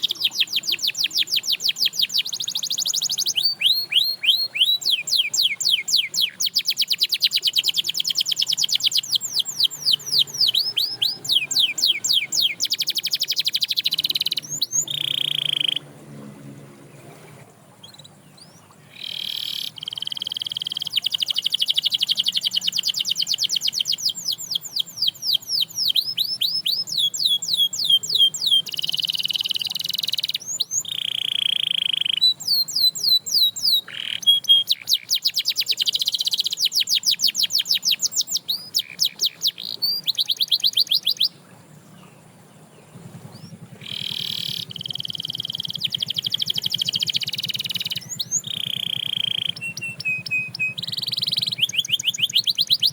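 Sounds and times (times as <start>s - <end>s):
canary singing trills: 0.0s - 15.9s, 17.3s - 52.9s.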